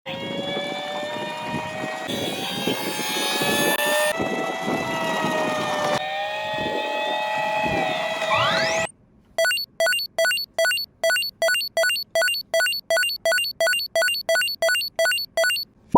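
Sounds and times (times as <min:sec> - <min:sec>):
toy electronic sirens: 0:00.1 - 0:15.6.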